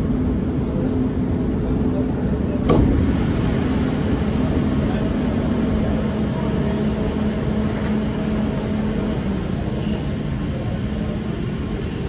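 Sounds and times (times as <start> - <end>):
train car air-conditioning hum: 0.0 - 12.0.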